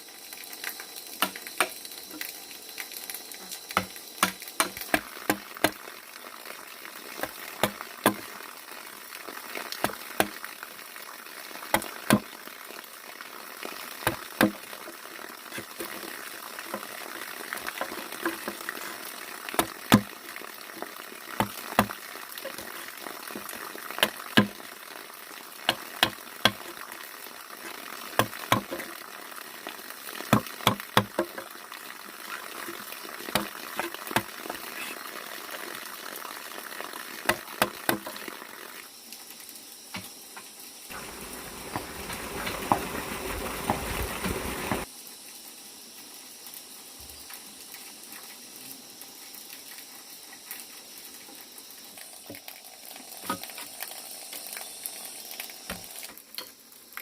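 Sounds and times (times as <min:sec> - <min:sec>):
steady hissing noise: 0:00.0 - 0:36.4, 0:37.1 - 0:57.0.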